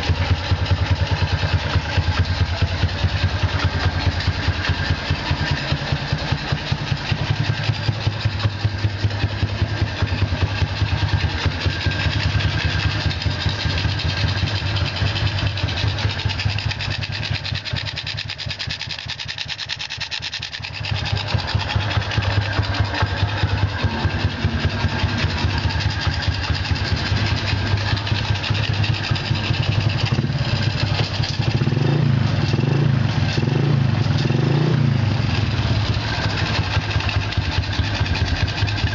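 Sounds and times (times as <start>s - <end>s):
motorcycle engine pulsing at low revs: 0.0s - 38.9s.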